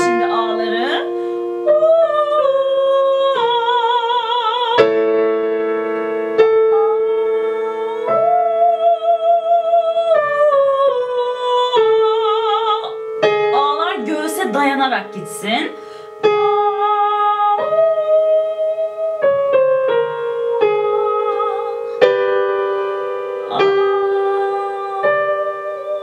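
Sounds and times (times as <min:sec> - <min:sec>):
woman singing vocal exercise: 0:00.0 - 0:05.0, 0:06.7 - 0:22.2, 0:23.5 - 0:26.0
electric piano chords: 0:00.0 - 0:26.0.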